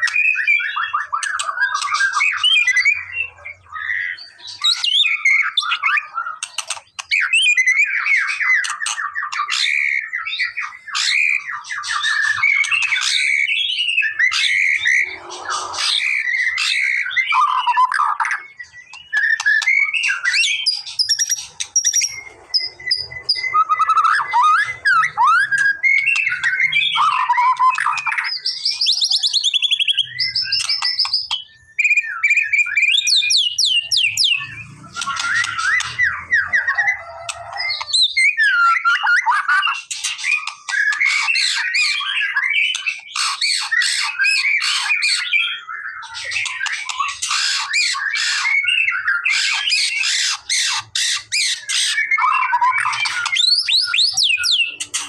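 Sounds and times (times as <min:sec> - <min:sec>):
songbird singing whistles and trills: 0:00.0 - 0:55.0.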